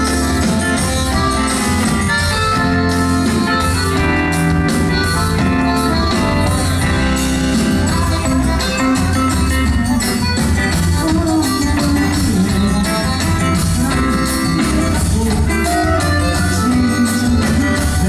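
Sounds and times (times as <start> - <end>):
live band held melody notes: 0.0 - 18.0
steady percussion beat: 0.0 - 18.0.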